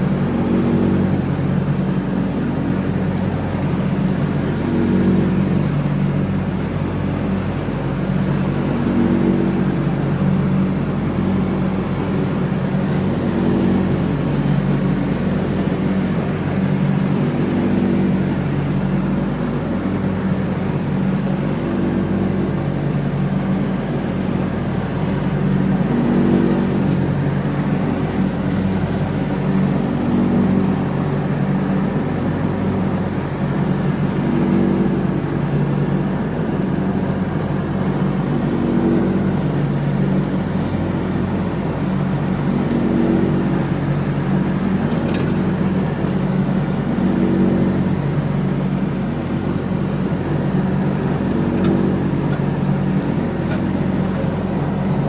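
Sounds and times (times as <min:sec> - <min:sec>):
lawn tractor engine mowing: 0:00.0 - 0:55.0.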